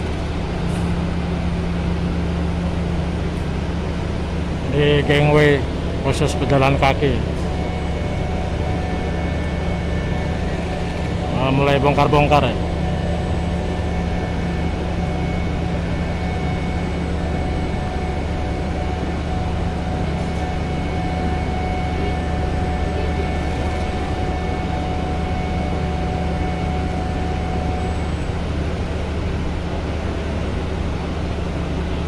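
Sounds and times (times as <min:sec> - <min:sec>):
diesel engines droning: 0:00.0 - 0:32.0
faint high whine: 0:00.0 - 0:32.0.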